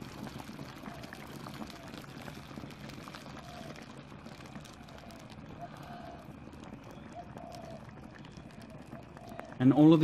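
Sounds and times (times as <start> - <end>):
small crackling pops: 0.0 - 10.0
water bubbling: 0.0 - 10.0.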